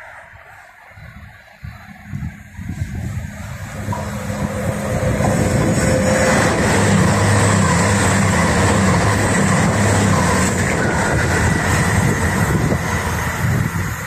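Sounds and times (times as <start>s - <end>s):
diesel train engine hum: 0.0s - 14.0s
wheels rushing on rail: 0.0s - 14.0s.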